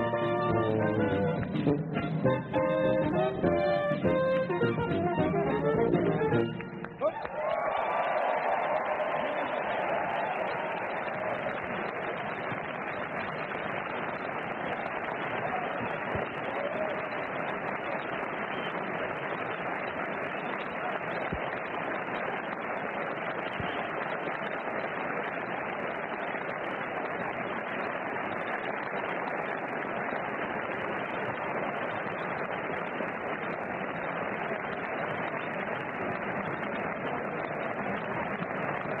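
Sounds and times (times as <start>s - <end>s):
large audience applauding: 0.0s - 39.0s.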